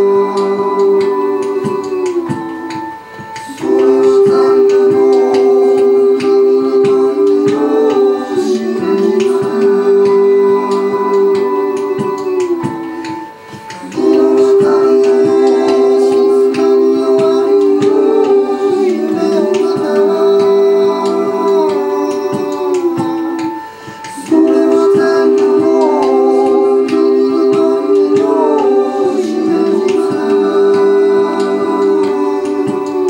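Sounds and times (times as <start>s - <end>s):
keyboard holding long tones: 0.0s - 33.0s
wordless voice singing: 0.0s - 33.0s.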